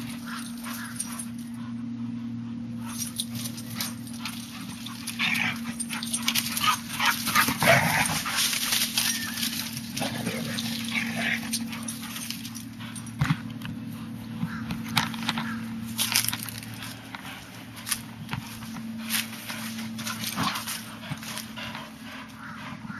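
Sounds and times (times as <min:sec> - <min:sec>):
dogs yipping and whining: 0:00.0 - 0:22.9
steady low hum: 0:00.0 - 0:22.9
scuffling and knocks: 0:02.8 - 0:21.8.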